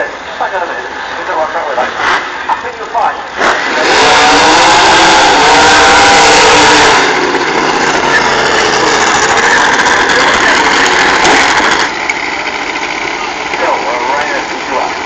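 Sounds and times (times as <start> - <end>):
drag racing car accelerating: 0.0 - 15.0.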